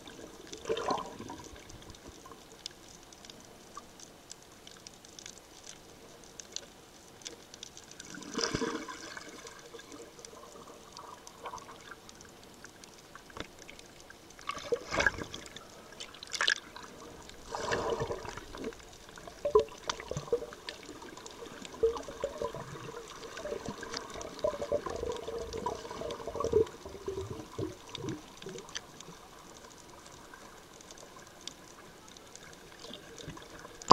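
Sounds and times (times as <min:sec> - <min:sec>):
bubbling clicks: 0:00.0 - 0:33.9
underwater sloshing and gurgling: 0:00.0 - 0:33.9
water swishes: 0:00.0 - 0:33.9.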